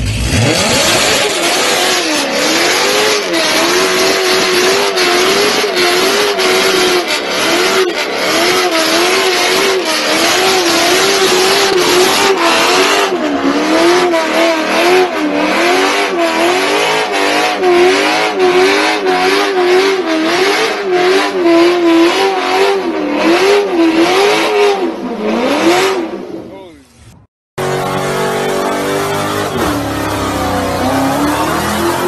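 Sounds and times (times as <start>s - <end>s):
car engine revving high: 0.0s - 26.5s, 27.6s - 32.0s.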